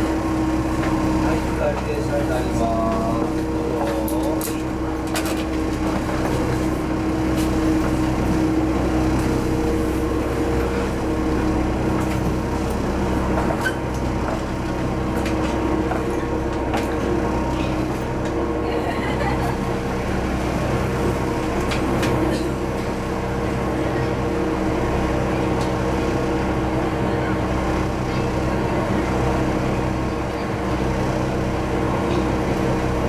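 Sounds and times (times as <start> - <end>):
train engine hum: 0.0 - 33.0.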